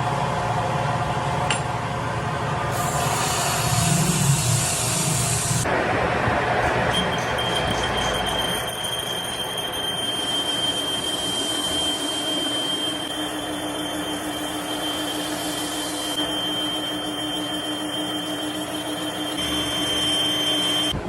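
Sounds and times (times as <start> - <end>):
machine whine: 0.0 - 21.0.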